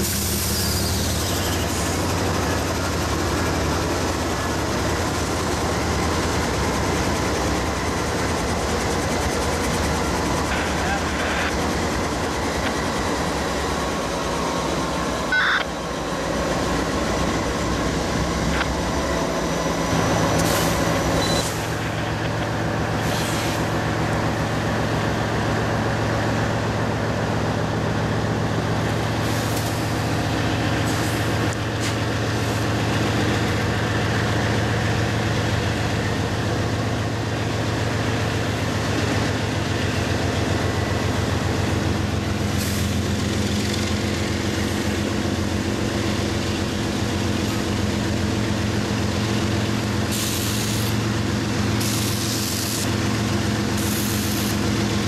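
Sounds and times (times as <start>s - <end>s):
diesel locomotive engine drone: 0.0s - 55.0s
freight train rolling past: 0.0s - 55.0s.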